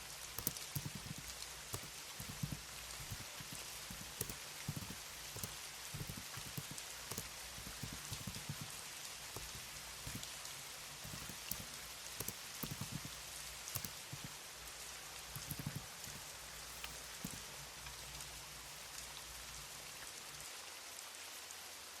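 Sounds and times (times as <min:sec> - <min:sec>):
steady rain hiss: 0:00.0 - 0:22.0
keyboard keystroke clicks: 0:00.3 - 0:19.6.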